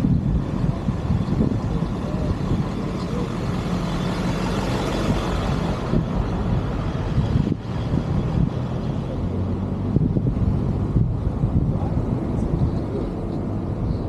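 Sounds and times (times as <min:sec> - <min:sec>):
vehicle engine and road rumble: 0:00.0 - 0:14.0
wind noise: 0:00.0 - 0:14.0.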